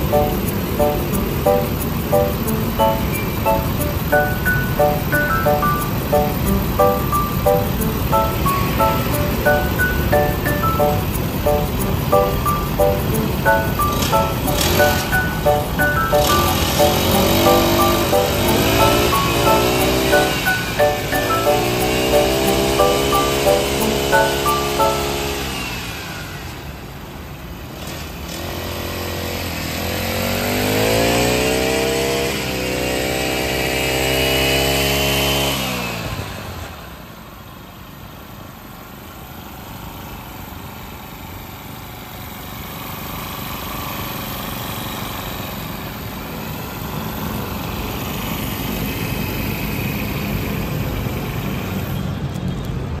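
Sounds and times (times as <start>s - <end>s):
street traffic noise: 0.0s - 53.0s.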